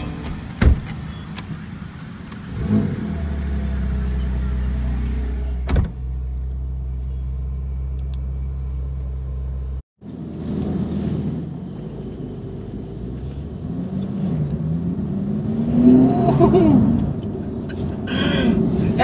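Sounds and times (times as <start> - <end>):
car engine droning in cabin: 0.0 - 19.0.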